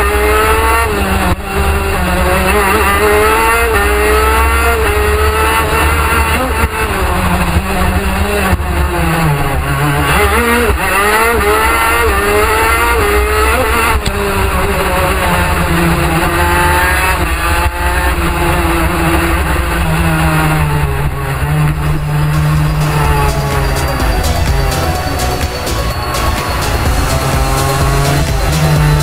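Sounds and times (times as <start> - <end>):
kart engine racing: 0.0 - 29.0.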